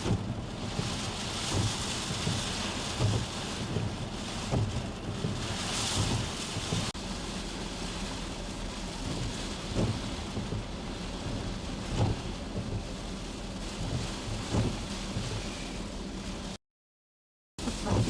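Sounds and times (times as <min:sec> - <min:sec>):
wind and rain rushing: 0:00.0 - 0:16.6, 0:17.6 - 0:18.0.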